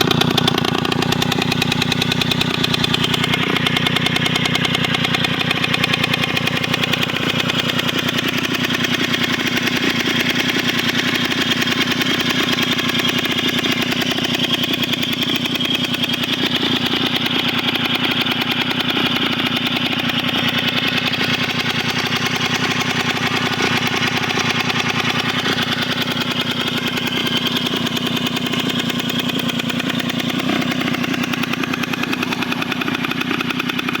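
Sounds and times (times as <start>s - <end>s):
moped engine idling: 0.0s - 34.0s.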